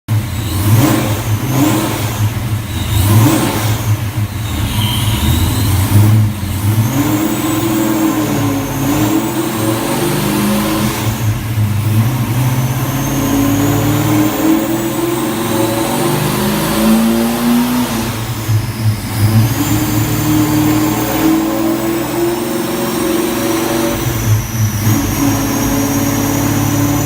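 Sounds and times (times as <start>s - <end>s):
car engine revving: 0.1s - 27.0s
high supercharger whine: 0.1s - 27.0s.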